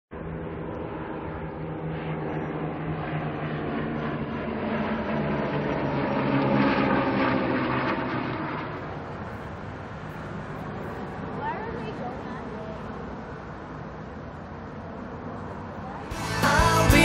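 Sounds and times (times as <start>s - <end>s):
aircraft engine drone overhead: 0.1s - 17.0s.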